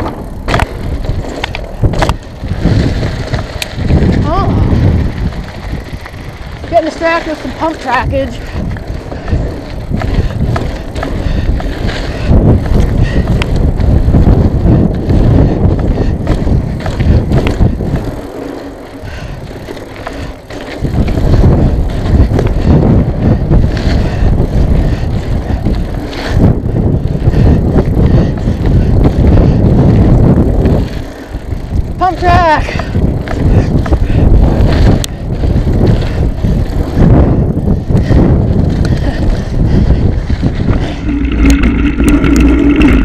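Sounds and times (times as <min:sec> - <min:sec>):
bike clicks and rattles: 0:00.0 - 0:43.0
bike tyres rumbling: 0:00.0 - 0:43.0
wind noise on camera: 0:00.0 - 0:43.0.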